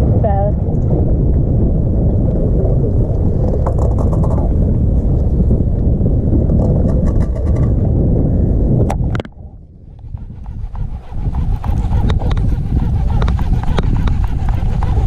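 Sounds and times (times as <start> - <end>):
low rumble on boat deck: 0.0 - 15.0.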